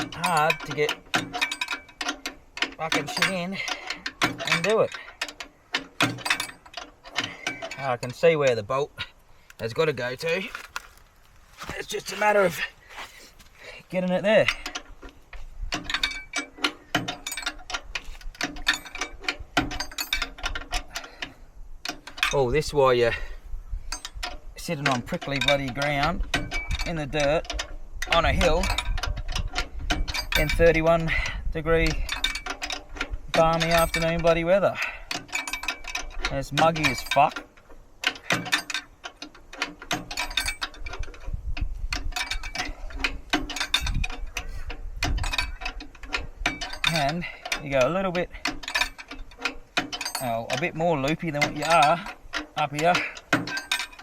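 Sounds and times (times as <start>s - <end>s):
hand tools clinking on metal: 0.0s - 8.8s, 11.6s - 15.2s, 15.8s - 22.8s, 23.9s - 41.1s, 42.0s - 54.0s.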